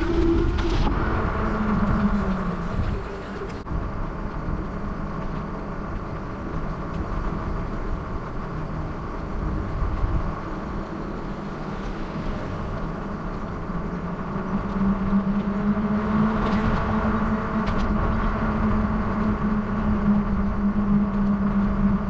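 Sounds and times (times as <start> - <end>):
bicycle riding hum: 0.0 - 22.0
wind buffeting microphone: 0.0 - 22.0.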